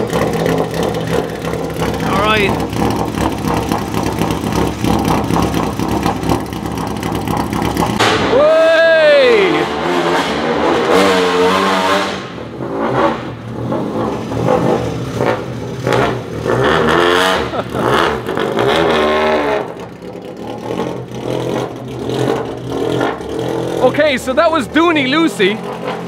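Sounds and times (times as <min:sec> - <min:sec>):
car engine revving loudly: 0:00.0 - 0:26.0.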